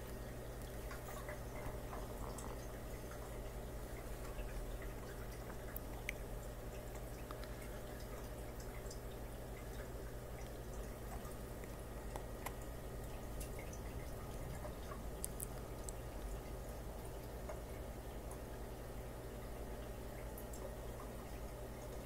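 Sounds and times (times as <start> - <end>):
aquarium equipment humming: 0.0 - 22.0
water noise: 0.0 - 22.0.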